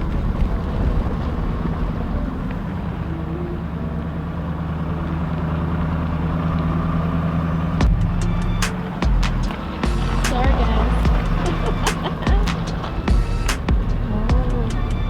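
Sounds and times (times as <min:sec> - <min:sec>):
pickup truck engine running: 0:00.0 - 0:15.0.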